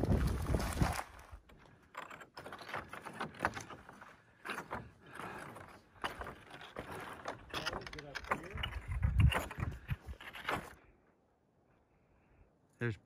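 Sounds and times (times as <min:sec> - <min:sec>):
footsteps on loose rock: 0:00.0 - 0:10.8.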